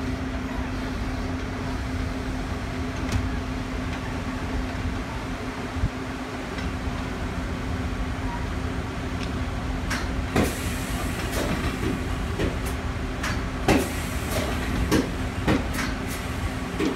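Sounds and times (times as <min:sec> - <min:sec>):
electric locomotive humming: 0:00.0 - 0:16.9.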